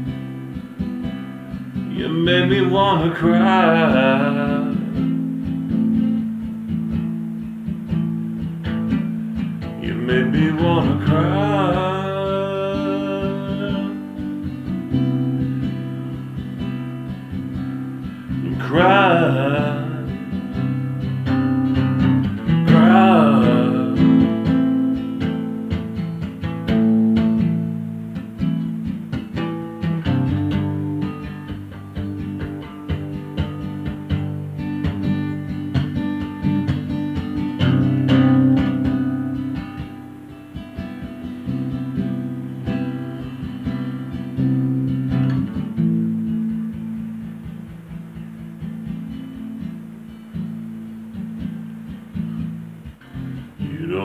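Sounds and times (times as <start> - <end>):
acoustic guitar strummed: 0.0 - 54.0.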